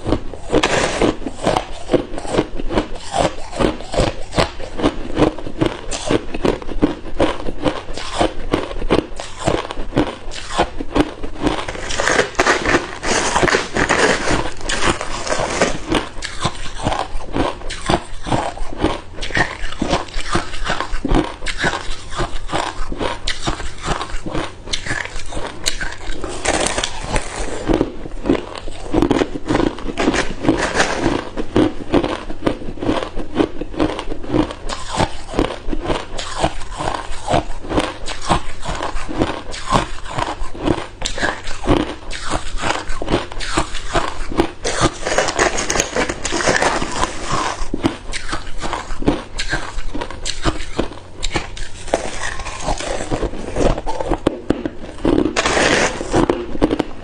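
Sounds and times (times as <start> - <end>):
ice cubes crunching while chewed: 0.0 - 57.0.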